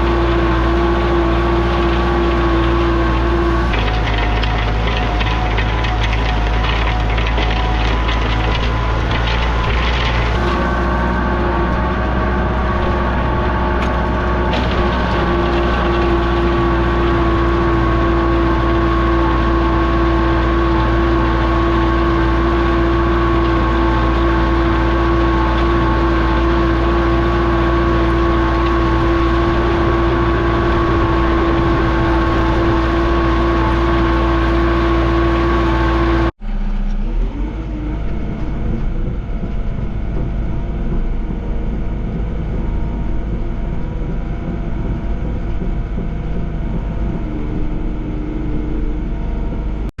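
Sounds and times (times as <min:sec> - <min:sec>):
quieter engine sound: 0:00.0 - 0:49.9
diesel engine running: 0:00.0 - 0:50.0
strong steady whine: 0:06.5 - 0:21.3, 0:22.8 - 0:49.9.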